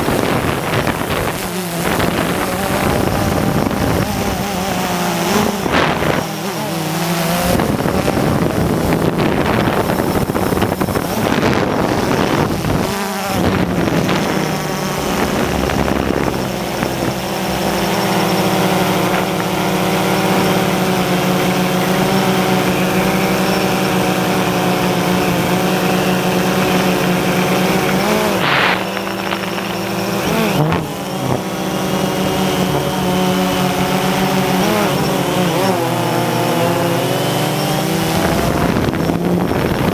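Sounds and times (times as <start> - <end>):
drone propellers buzzing: 0.0 - 39.9
wind noise on microphone: 0.0 - 39.9.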